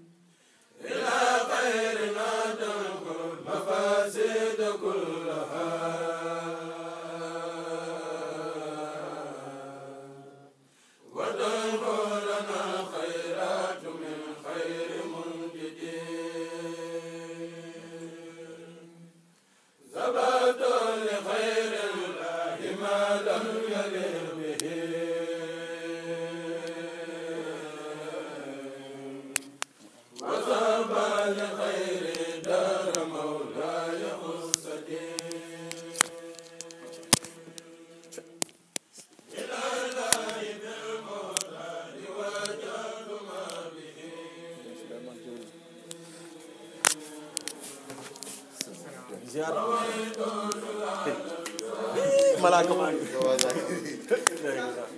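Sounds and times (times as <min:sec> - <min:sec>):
group chanting devotional poem: 0:00.0 - 0:54.9.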